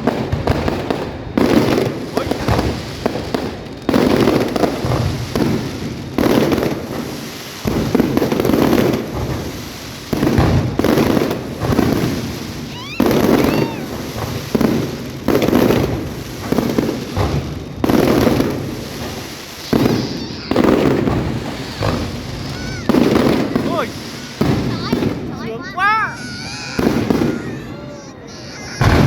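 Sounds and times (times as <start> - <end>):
fireworks shells booming: 0.0 - 29.0.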